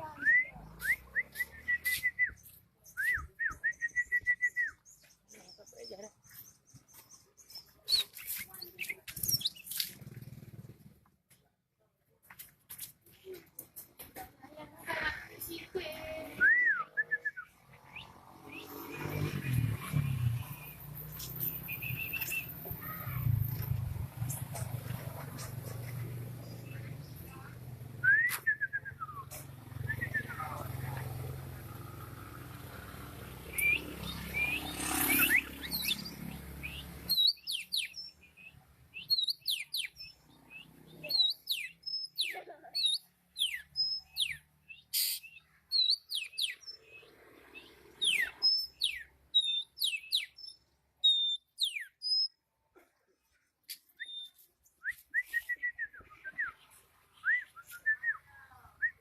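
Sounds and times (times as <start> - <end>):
songbird chirping: 0.0 - 11.0, 16.2 - 52.5, 53.3 - 59.0.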